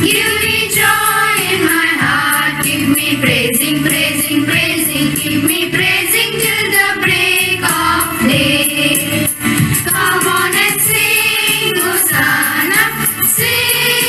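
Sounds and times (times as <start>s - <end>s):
children singing in unison: 0.0s - 14.0s
instrumental accompaniment: 0.0s - 14.0s
steady ticking beat: 0.0s - 14.0s.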